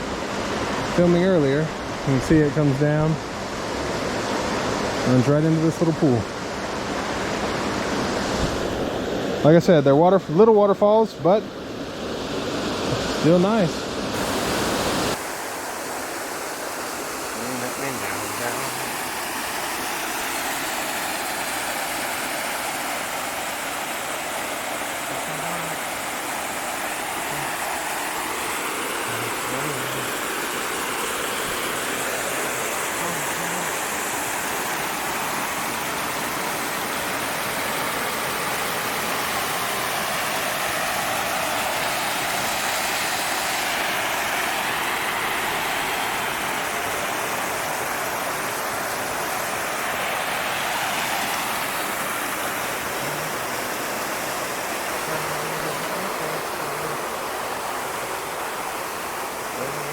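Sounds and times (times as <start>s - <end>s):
waterfall rushing into pool: 0.0s - 59.9s.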